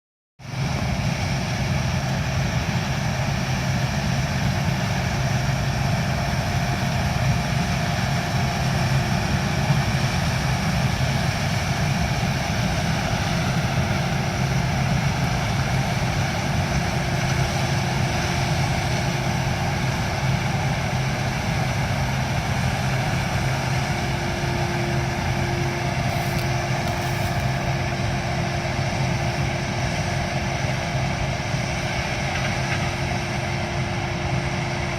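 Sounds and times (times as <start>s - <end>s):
faint steady whine: 0.4s - 34.9s
harvesting machinery drone: 0.4s - 34.9s.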